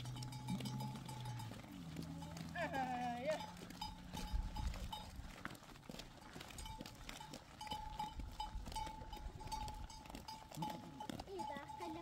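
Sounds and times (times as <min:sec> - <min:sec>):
goat hooves clicking on gravel: 0:00.0 - 0:12.0.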